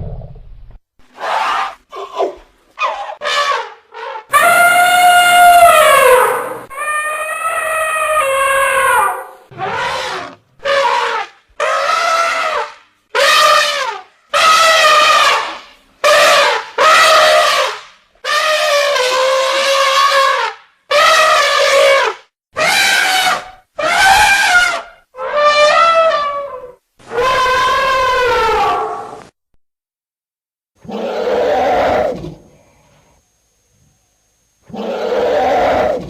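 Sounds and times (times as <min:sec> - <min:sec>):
elephant trumpeting: 0:01.2 - 0:29.2, 0:30.8 - 0:32.2, 0:34.7 - 0:36.0.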